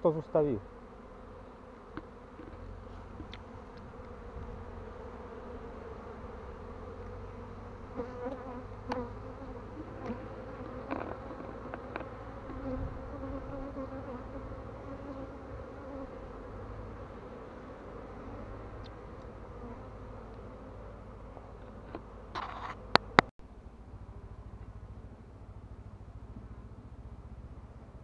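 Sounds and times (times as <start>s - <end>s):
bees buzzing: 0.0s - 25.4s.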